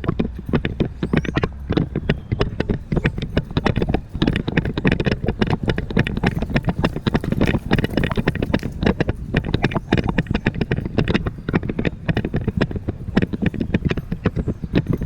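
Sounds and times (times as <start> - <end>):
horse hoofbeats: 0.0 - 15.0.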